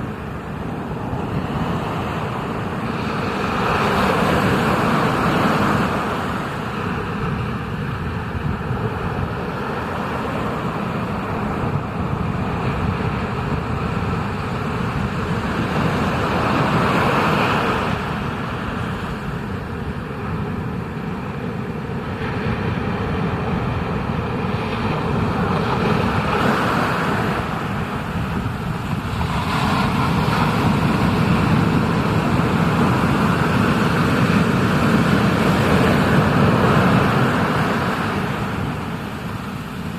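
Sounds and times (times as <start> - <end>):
ocean surf rumbling wash: 0.0 - 39.9.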